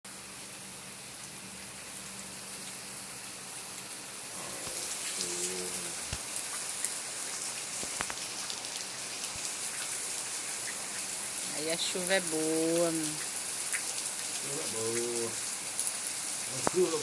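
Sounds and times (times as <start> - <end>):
raindrops ticking on surfaces: 0.5 - 17.0
heavy rain pouring: 1.0 - 17.0.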